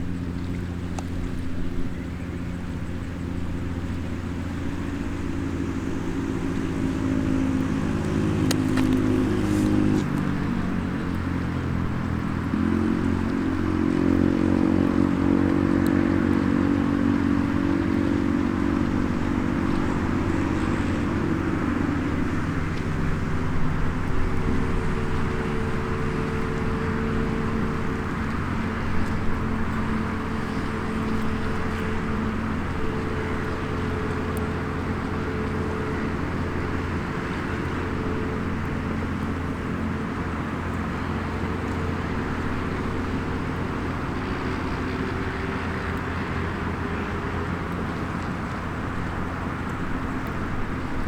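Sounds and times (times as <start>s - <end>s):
background wash: 0.0s - 51.0s
engine humming: 0.0s - 51.0s.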